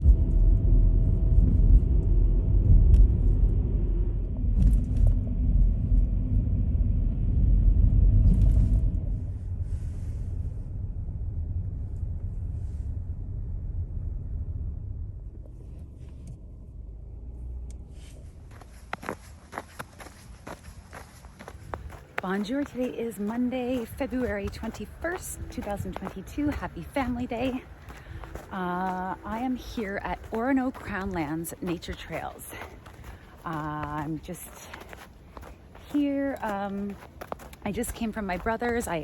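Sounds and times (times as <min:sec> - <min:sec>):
low rumbling noise: 0:00.0 - 0:39.0.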